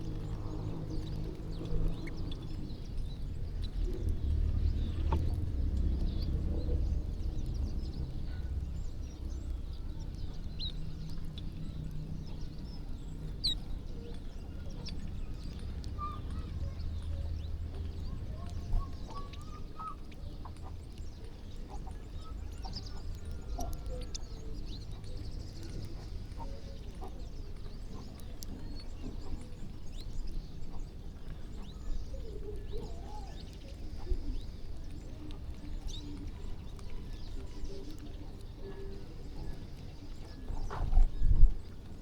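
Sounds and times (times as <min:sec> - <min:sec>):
birds chirping: 0:00.0 - 0:42.0
steady low rumble: 0:00.0 - 0:42.0.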